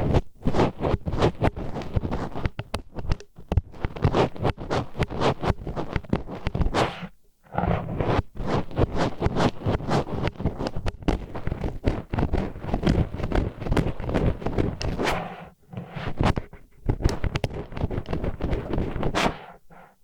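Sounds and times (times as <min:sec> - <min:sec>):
chopsticks scraping microphone: 0:03.8 - 0:19.9.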